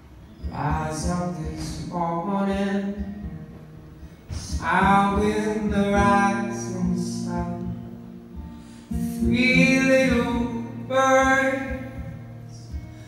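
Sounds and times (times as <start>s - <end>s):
acoustic guitar strumming: 0.0s - 13.0s
man singing: 0.4s - 3.5s, 4.3s - 8.0s, 8.9s - 13.0s.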